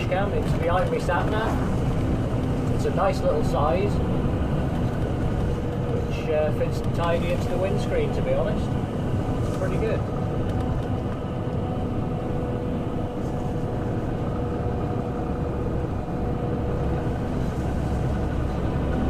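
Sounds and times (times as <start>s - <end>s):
truck engine drone in cab: 0.0s - 19.0s.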